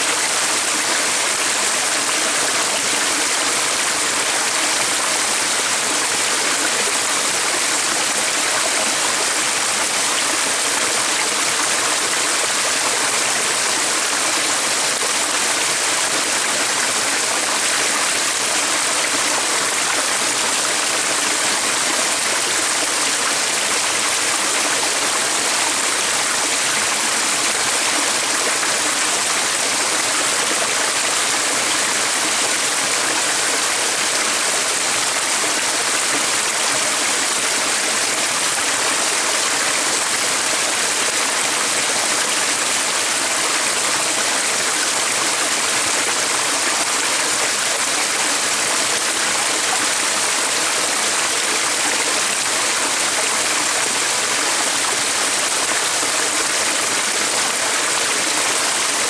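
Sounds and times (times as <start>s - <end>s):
stream of water flowing: 0.0s - 59.0s.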